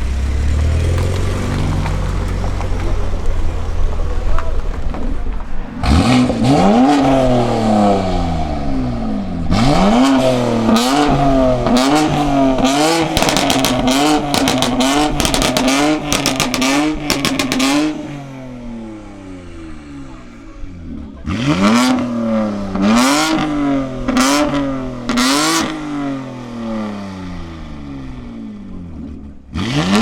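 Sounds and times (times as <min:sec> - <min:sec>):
exhaust crackles: 0:00.0 - 0:30.0
engine revving hard: 0:05.8 - 0:30.0.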